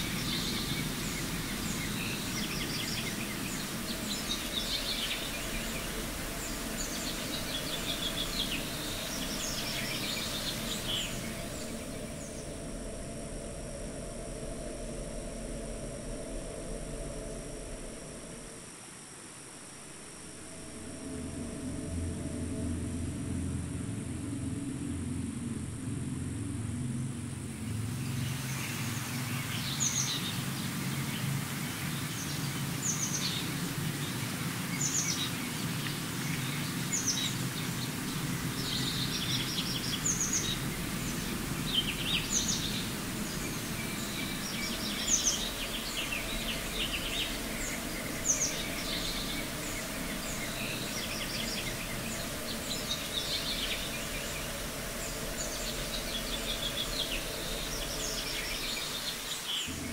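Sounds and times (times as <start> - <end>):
low rumble: 0.0 - 18.7, 20.3 - 29.5, 35.4 - 59.9
outdoor background hiss: 0.0 - 59.9.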